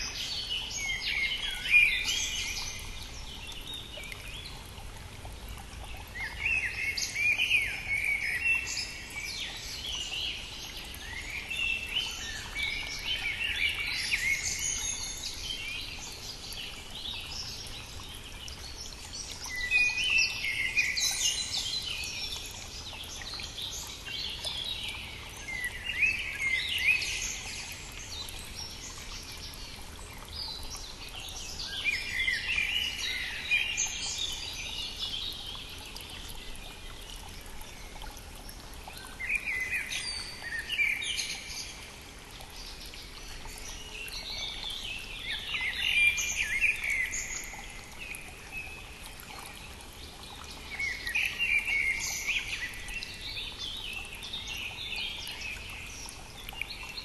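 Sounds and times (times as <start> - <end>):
brook flowing: 0.0 - 57.0
songbirds singing: 0.0 - 57.0.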